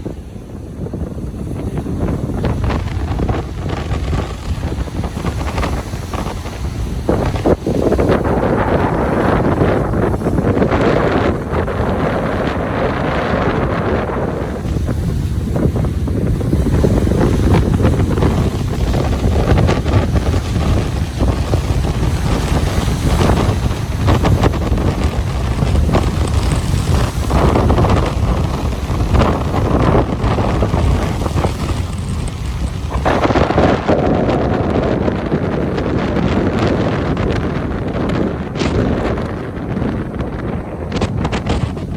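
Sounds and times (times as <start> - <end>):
ocean surf breaking: 0.0 - 41.9
wind buffeting microphone: 0.0 - 41.9.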